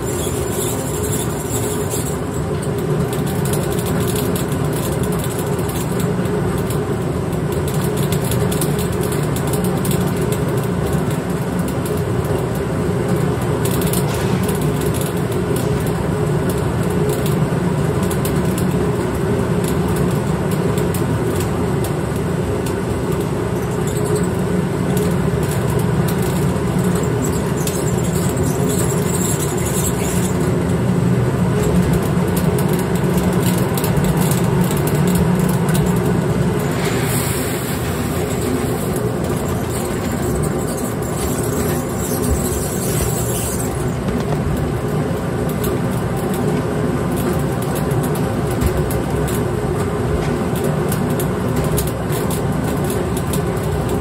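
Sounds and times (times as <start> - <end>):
malt mill mechanical drone: 0.0 - 54.0.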